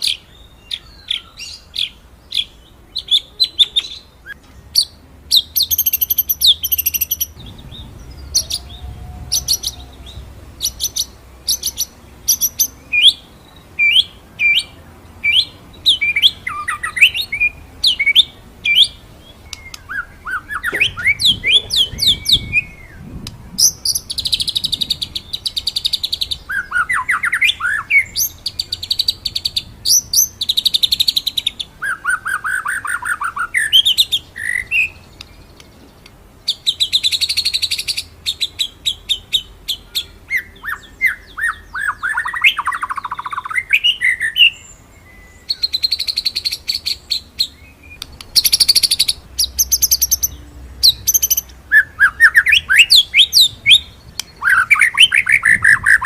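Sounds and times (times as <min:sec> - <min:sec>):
bird singing trills and whistles: 0:00.0 - 0:56.0.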